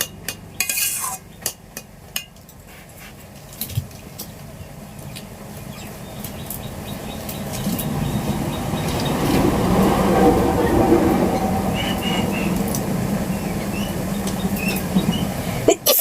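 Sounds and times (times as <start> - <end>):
steady rumbling noise: 0.0 - 16.0.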